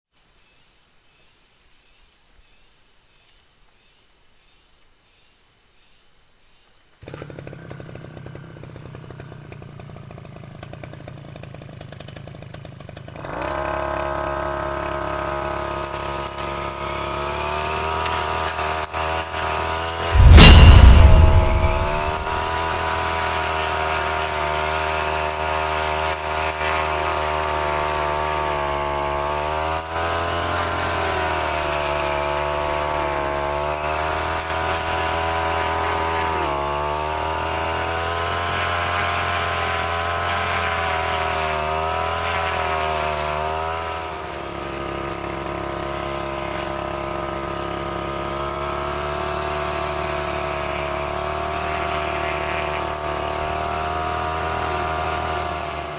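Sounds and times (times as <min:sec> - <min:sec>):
brush cutter running: 0:07.0 - 0:20.1, 0:23.6 - 0:55.9.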